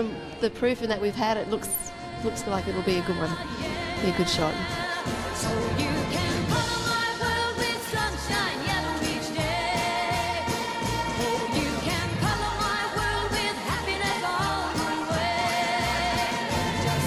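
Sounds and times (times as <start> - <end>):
pop song with bass beat: 1.5 - 17.0.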